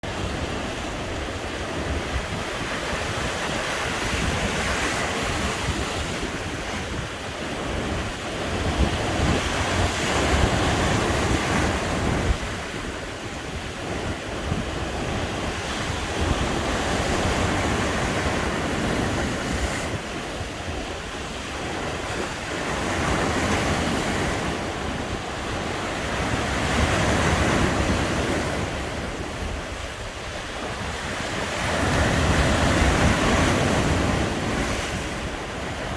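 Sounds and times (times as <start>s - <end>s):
sea waves breaking on beach: 0.0s - 35.9s.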